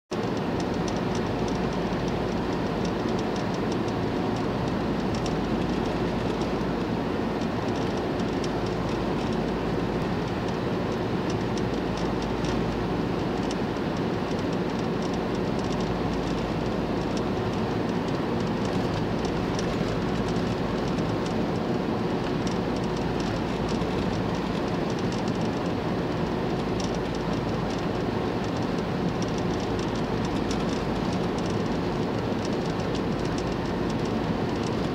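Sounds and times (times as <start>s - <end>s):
van road and engine noise: 0.1s - 34.9s.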